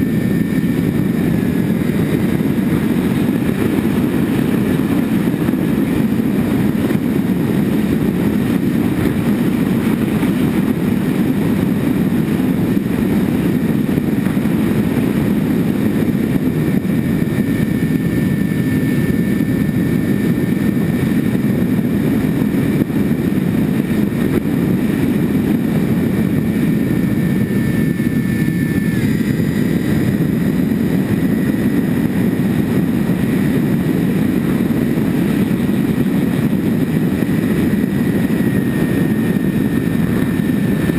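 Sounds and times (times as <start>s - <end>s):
wind rush on camera: 0.0s - 40.9s.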